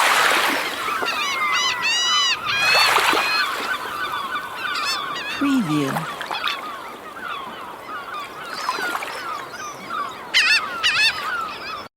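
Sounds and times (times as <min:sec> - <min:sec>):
small waves washing: 0:00.0 - 0:10.0
seagulls squawking: 0:00.8 - 0:11.9.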